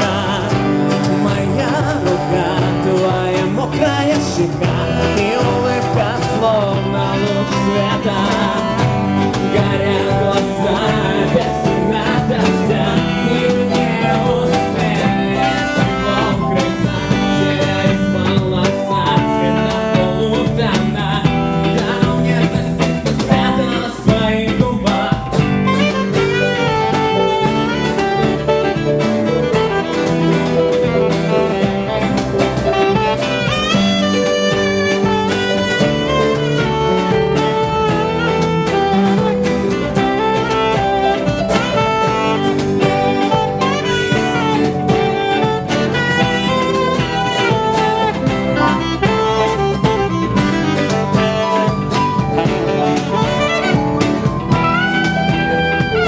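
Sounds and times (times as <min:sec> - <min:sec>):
bass: 0:00.0 - 0:56.0
drums: 0:00.0 - 0:56.0
lead guitar melody with bending notes: 0:00.0 - 0:56.0
strummed chords: 0:00.0 - 0:56.0.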